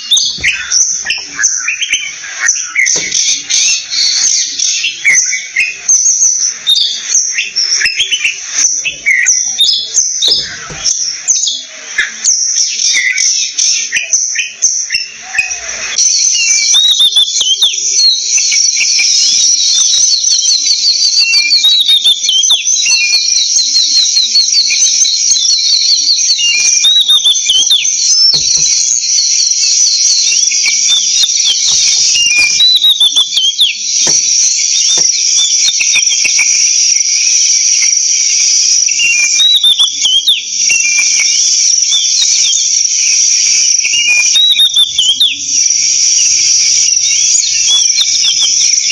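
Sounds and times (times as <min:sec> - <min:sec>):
bird whistled calls: 0:00.0 - 0:48.9.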